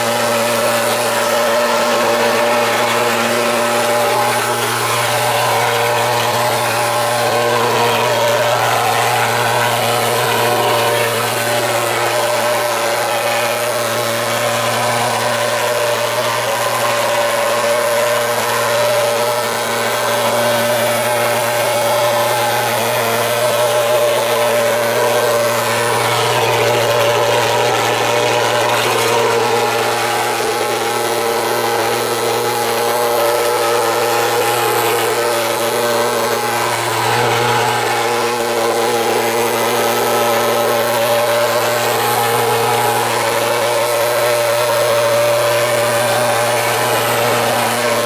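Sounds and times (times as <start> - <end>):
pulse-jet fogger engine running: 0.0 - 48.0.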